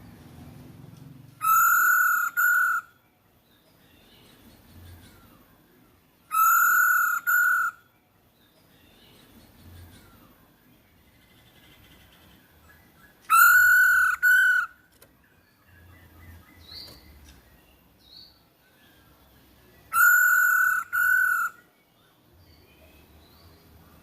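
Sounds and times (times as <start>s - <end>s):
faint high bird chirps: 1.4s - 24.0s.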